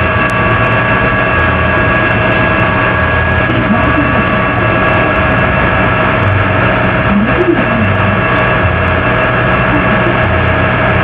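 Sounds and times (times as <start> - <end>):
steady hum with tones: 0.0 - 11.0.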